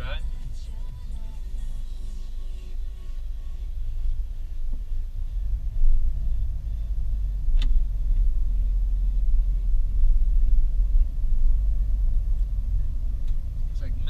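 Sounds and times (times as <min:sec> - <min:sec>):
car driving on road: 0:00.0 - 0:14.0.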